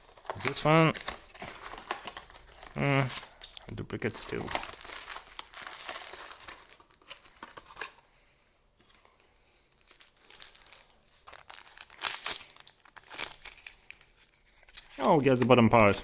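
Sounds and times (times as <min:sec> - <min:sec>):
plastic wrapper crinkling: 0:00.0 - 0:08.0, 0:09.7 - 0:16.0.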